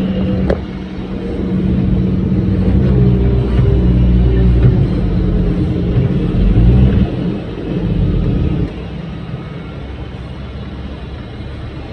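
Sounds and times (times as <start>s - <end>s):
heavy vehicle engine running: 0.0s - 11.9s.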